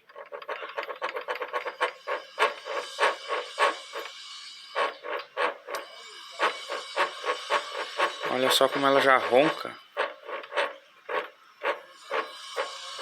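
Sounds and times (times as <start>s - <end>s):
bearing growling with rough rasp: 0.0s - 13.0s.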